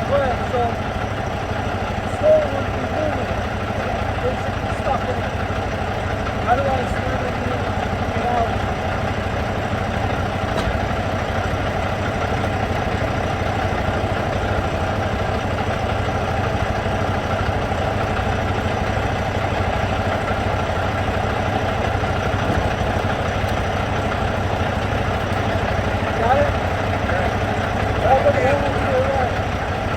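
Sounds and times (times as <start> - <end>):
vehicle engine idling: 0.0 - 29.9.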